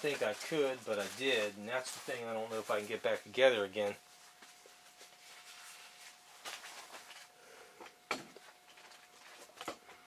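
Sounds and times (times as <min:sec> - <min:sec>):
faint high hum: 0:00.0 - 0:10.0.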